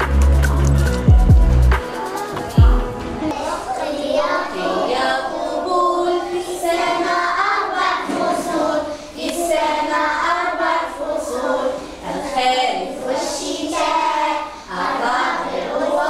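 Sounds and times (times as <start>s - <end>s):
children singing in unison: 1.9s - 16.0s.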